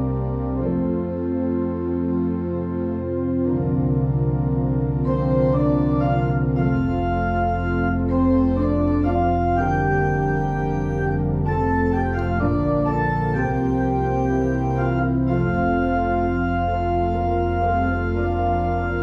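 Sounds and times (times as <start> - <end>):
pipe organ playing sustained chords: 0.0 - 19.0.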